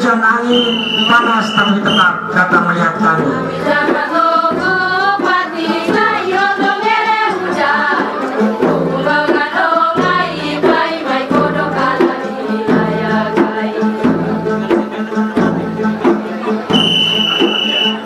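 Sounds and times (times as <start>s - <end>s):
instrumental accompaniment with beat: 0.0s - 18.0s.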